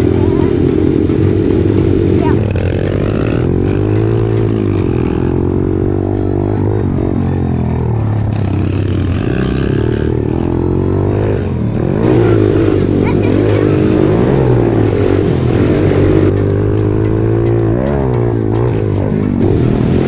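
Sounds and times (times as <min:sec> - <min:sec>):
small motorbike engines revving: 0:00.0 - 0:20.0.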